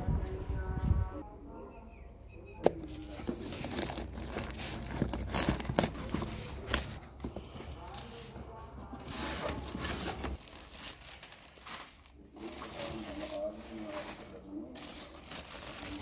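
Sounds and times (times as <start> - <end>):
plastic packets rustling: 2.8 - 16.0.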